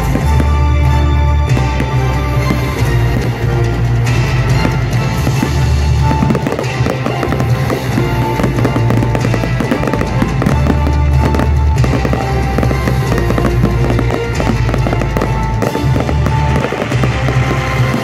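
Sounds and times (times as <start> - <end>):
fireworks bursting and crackling: 0.0 - 18.0
loud music with deep bass: 0.0 - 18.0.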